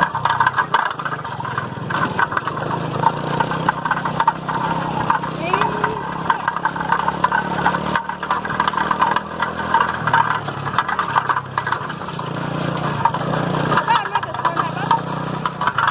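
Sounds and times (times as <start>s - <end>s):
rattling clatter: 0.0s - 15.9s
small engine running: 0.0s - 15.9s.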